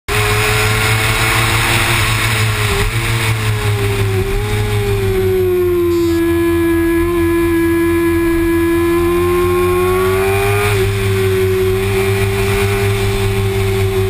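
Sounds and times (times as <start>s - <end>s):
motorcycle engine running hard: 0.1s - 14.0s.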